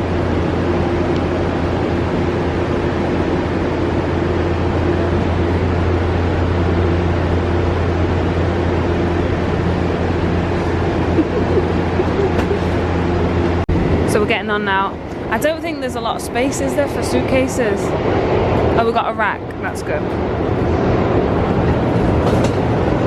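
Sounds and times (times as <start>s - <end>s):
train humming and rumbling: 0.0s - 23.0s.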